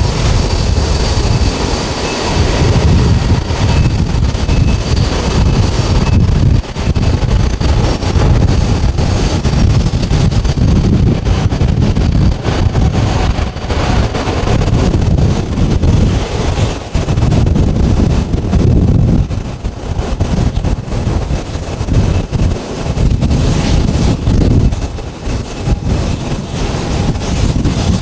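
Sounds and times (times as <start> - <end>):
jet engines roaring at takeoff: 0.0 - 28.0
wind buffeting microphone: 0.0 - 28.0.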